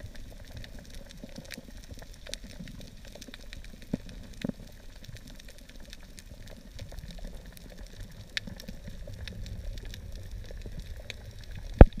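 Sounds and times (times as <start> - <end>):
dense crackle of sharp clicks: 0.0 - 12.0
low rumble of moving water: 0.0 - 12.0.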